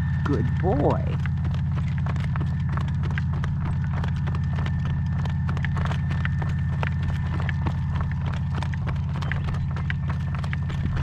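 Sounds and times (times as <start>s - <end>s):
horse hooves clip-clopping: 0.0s - 11.0s
wind rumble on microphone: 0.0s - 11.0s.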